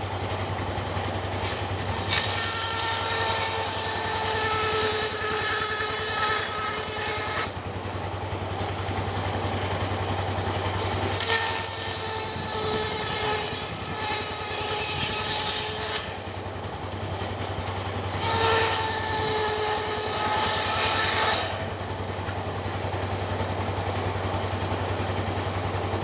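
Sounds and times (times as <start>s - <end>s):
engine humming: 0.0s - 6.0s, 6.9s - 15.1s, 15.8s - 18.2s, 21.5s - 26.0s
machine saw cutting wood: 0.0s - 26.0s.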